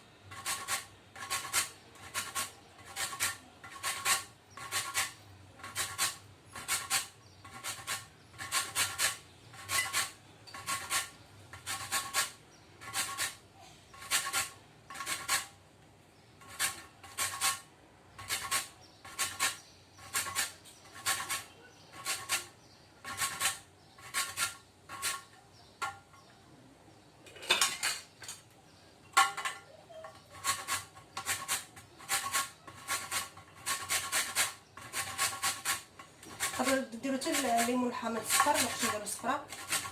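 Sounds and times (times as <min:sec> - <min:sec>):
lemon peel rasping on a grater: 0:00.3 - 0:13.4, 0:14.0 - 0:15.5, 0:16.4 - 0:25.3, 0:29.9 - 0:39.9.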